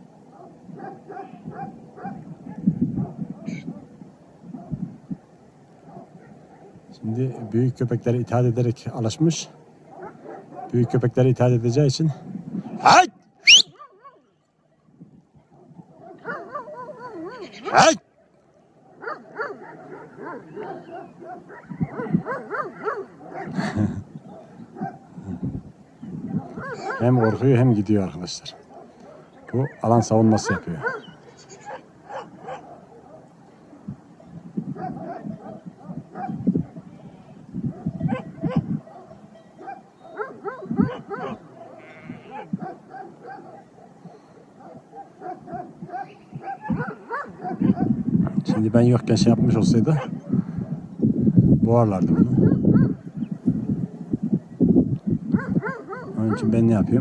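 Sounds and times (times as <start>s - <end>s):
dogs barking and yelping: 0.0s - 5.0s, 5.8s - 6.9s, 9.6s - 10.9s, 12.8s - 14.3s, 15.5s - 18.0s, 18.8s - 27.9s, 28.5s - 48.7s, 49.8s - 50.9s, 52.0s - 54.4s, 55.0s - 56.6s.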